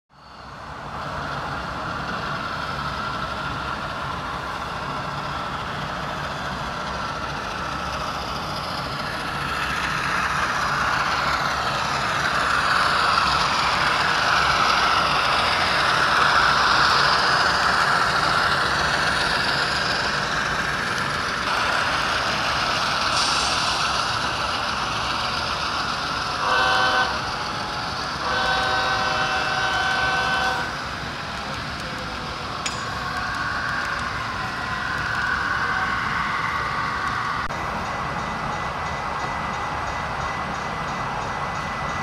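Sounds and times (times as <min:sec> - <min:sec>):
diesel locomotive engine running: 0:00.1 - 0:42.0.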